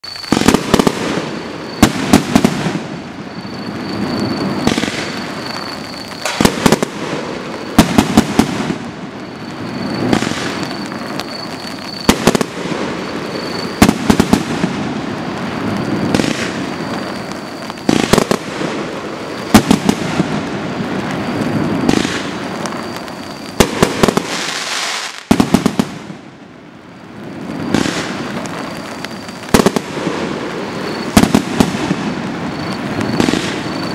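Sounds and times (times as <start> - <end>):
fireworks reports: 0.0 - 33.9.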